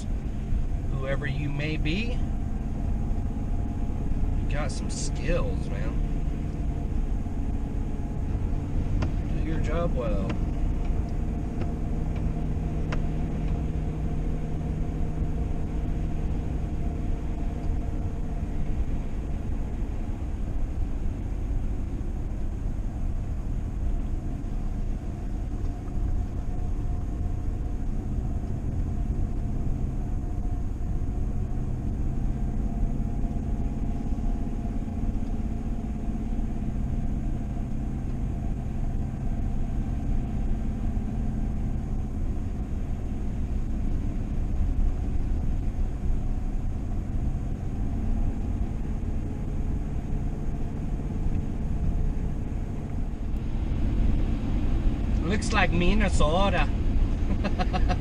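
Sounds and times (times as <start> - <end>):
road rumble: 0.0 - 58.0
vehicle engine while driving: 0.0 - 58.0.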